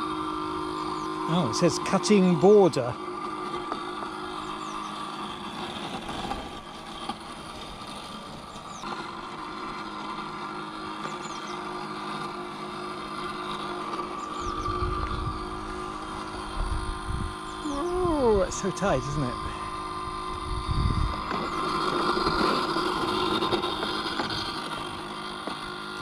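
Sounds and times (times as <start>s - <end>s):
robot lawnmower motor humming: 0.0s - 26.0s.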